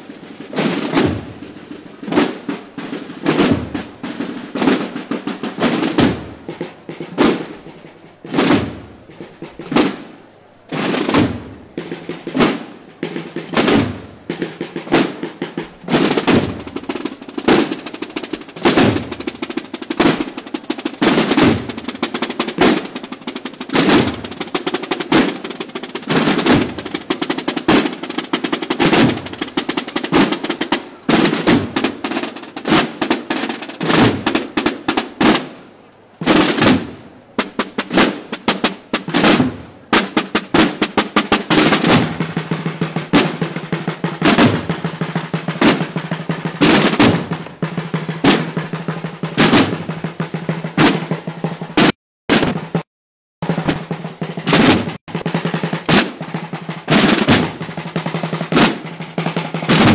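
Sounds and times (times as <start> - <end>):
snare drums playing a march: 0.0 - 59.9.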